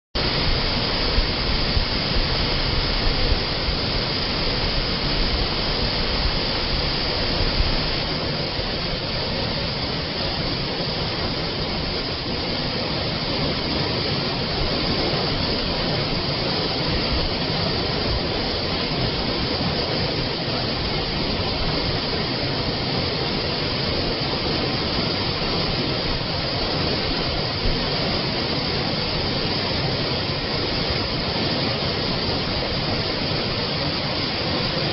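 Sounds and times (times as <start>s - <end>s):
spring water flowing: 0.2s - 34.9s.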